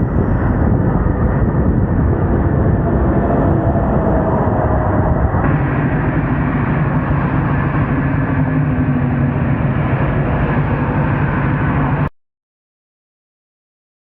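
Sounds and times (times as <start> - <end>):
road noise rushing: 0.0 - 12.1
vehicle engine drone: 0.0 - 12.1.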